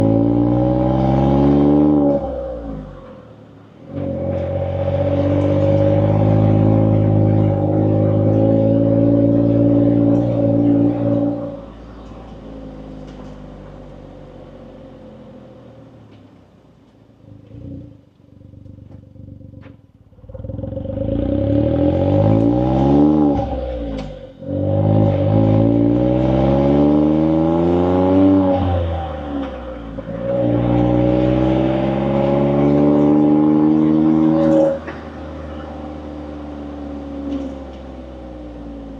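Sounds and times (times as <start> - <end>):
car engine revving: 0.0 - 16.2, 17.1 - 38.9.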